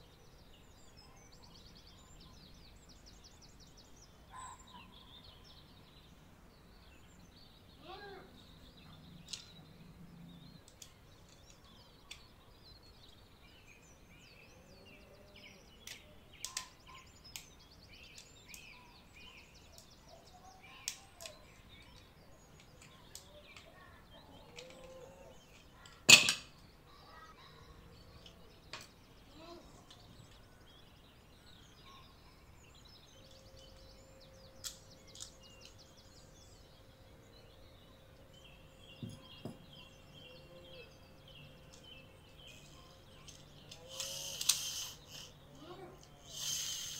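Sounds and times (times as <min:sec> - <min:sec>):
birds chirping faintly: 0:00.0 - 0:46.9.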